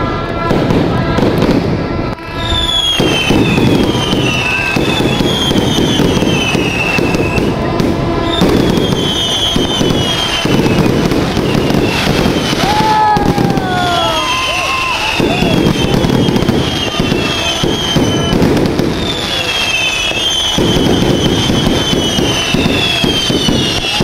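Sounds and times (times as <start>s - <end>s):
fireworks bursting with booms: 0.0s - 24.0s
fireworks crackle: 0.0s - 24.0s
descending firework whistles: 0.4s - 24.0s.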